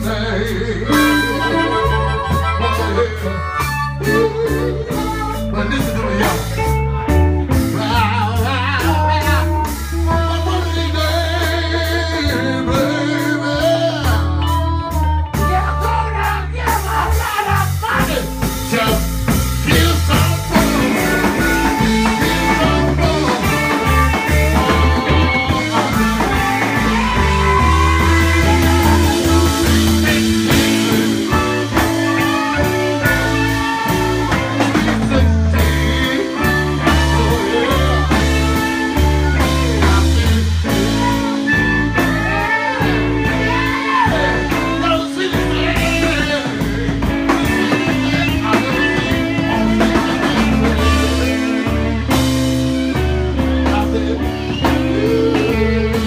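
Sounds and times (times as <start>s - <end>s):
live blues band playing: 0.0s - 56.0s.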